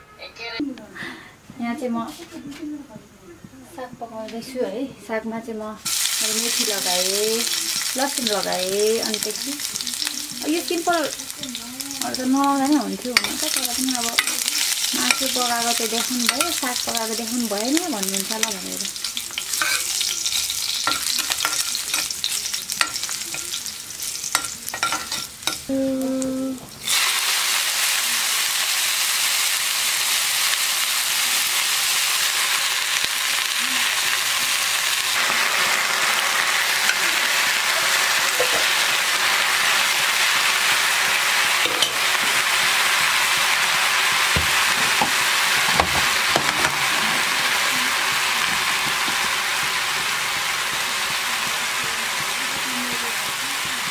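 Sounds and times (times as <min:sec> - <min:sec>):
greens sizzling in hot oil: 0:05.4 - 0:53.9.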